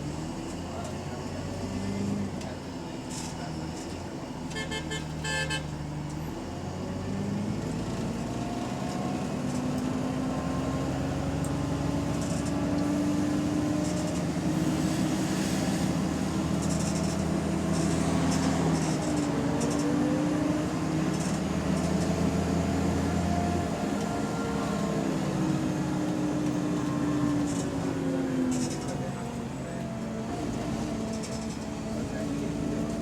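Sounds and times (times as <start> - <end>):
diesel bus engine pulling away: 0.0 - 4.5, 5.1 - 33.0.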